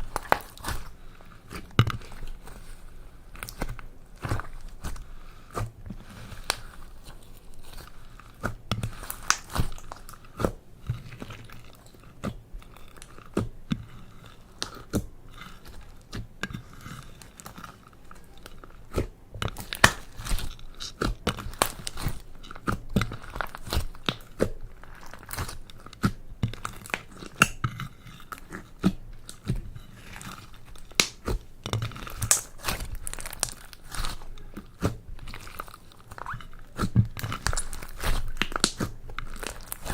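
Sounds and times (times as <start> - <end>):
slime squishing with sticky clicks: 0.0 - 39.9.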